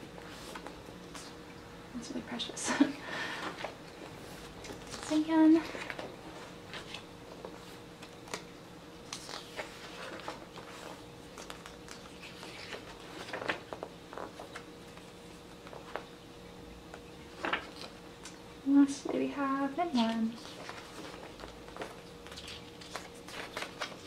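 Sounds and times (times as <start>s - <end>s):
book pages rustling: 0.0s - 1.4s, 3.4s - 16.1s, 17.3s - 18.4s, 19.9s - 24.0s.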